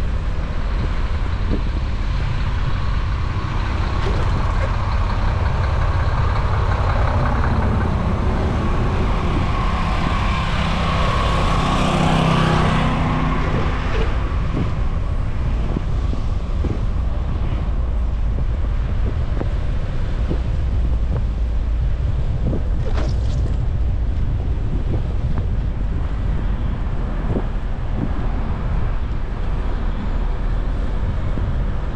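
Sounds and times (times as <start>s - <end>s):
engine hum and hiss: 0.0s - 31.9s.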